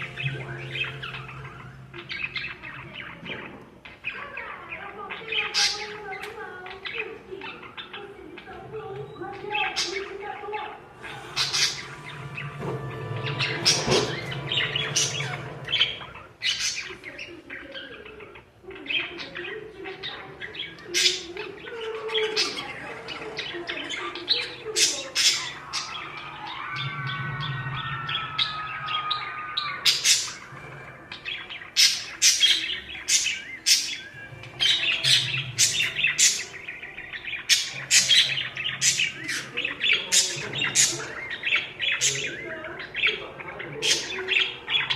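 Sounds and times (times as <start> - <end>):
parakeet warbling call: 0.0 - 6.1, 9.5 - 43.2
parakeets chirping and squawking: 0.0 - 44.9.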